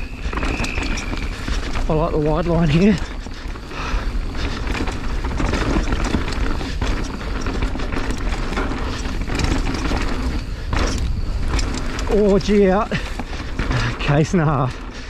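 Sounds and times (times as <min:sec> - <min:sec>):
bike clicks and rattles: 0:00.0 - 0:15.0
tyres rushing on dirt: 0:00.0 - 0:15.0.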